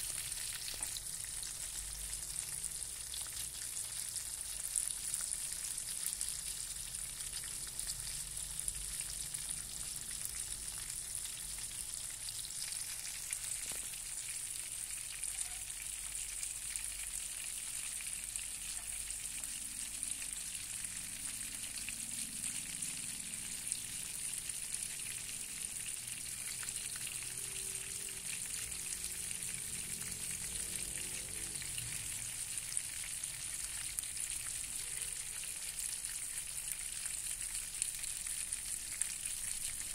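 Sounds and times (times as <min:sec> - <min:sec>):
fish sizzling in hot oil: 0:00.0 - 0:39.9
small crackles of oil: 0:00.0 - 0:39.9.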